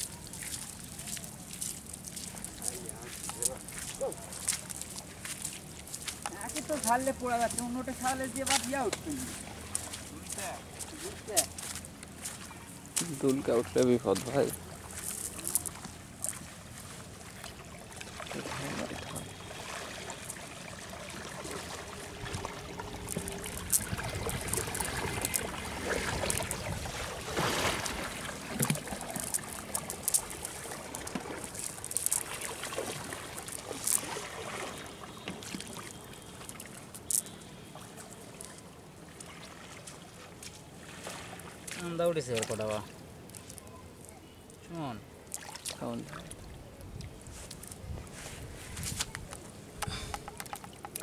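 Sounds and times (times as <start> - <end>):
water trickling: 0.0 - 47.8.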